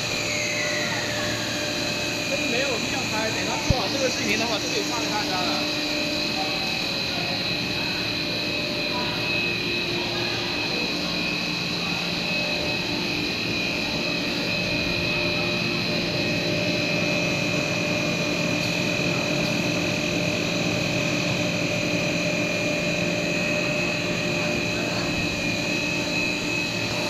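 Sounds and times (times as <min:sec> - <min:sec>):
high piercing machine whine: 0:00.0 - 0:27.0
machine motors droning: 0:00.0 - 0:27.0.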